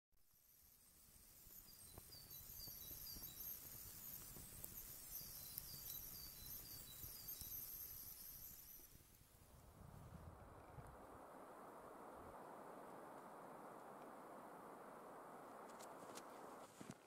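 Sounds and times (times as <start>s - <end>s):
twig fire crackling and popping: 1.4s - 9.4s, 10.8s - 17.0s.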